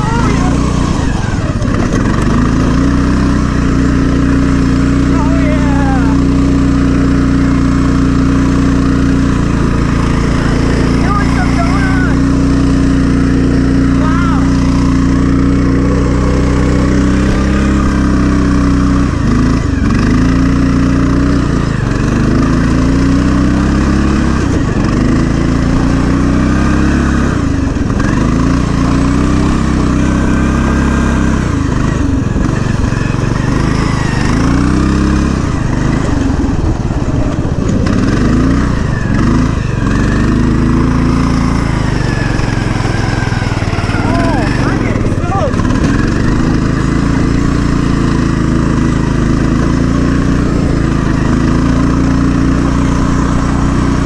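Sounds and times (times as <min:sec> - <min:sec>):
riding mower engine under load: 0:00.0 - 0:54.0.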